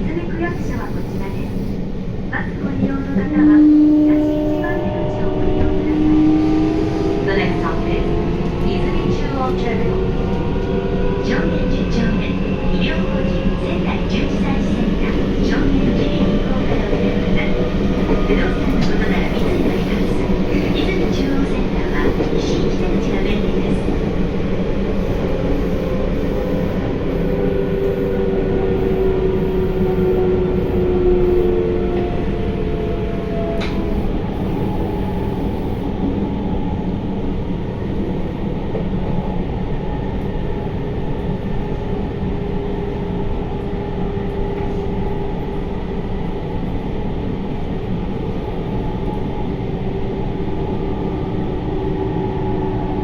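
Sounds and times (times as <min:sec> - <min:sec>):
train wheels rumbling: 0:00.0 - 0:46.9.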